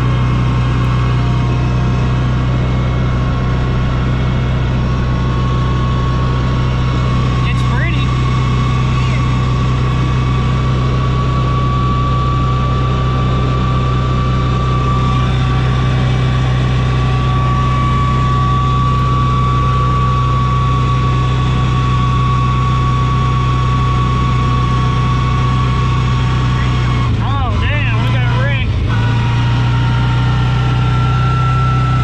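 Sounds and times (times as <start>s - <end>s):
thin steady whine: 0.0s - 32.0s
vehicle engine running: 0.0s - 32.0s.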